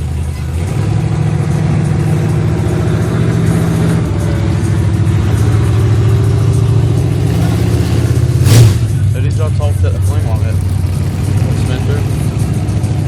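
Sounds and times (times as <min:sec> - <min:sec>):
truck engine running loud: 0:00.0 - 0:13.0.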